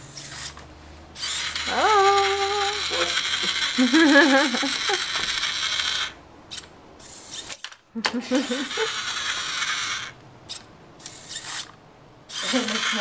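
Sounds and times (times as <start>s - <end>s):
small geared motors whirring: 0.0s - 0.6s, 1.2s - 13.0s.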